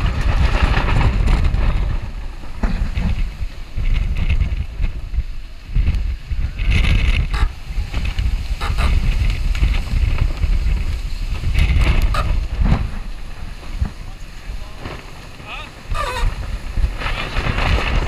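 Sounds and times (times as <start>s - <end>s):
rushing water: 0.0s - 18.0s
wind buffeting microphone: 0.0s - 18.0s.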